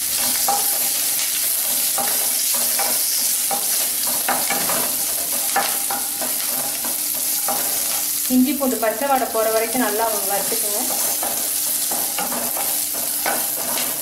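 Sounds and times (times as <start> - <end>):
spices sizzling in oil: 0.0 - 14.0
wooden spatula scraping and tapping: 0.1 - 8.2, 10.5 - 14.0.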